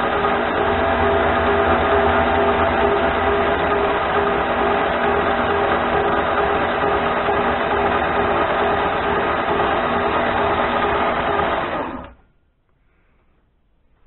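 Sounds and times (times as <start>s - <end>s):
lathe motor whine: 0.0s - 12.2s.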